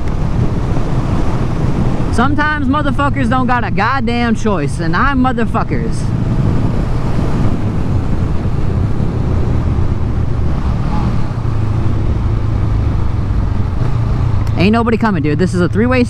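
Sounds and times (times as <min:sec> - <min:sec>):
motorcycle engine rumbling: 0:00.0 - 0:16.0
wind noise on microphone: 0:00.0 - 0:16.0.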